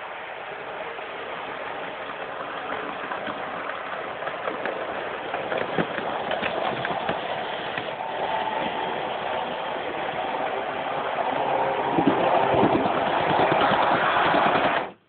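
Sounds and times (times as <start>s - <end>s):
model train motor whirring: 0.0s - 15.0s
wheels clicking over rail joints: 0.0s - 15.0s.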